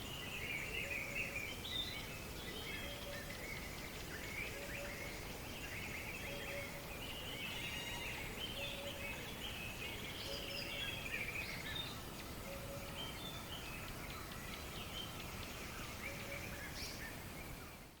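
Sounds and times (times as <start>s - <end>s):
birds chirping and trilling: 0.0s - 17.9s
outdoor background hiss: 0.0s - 18.0s.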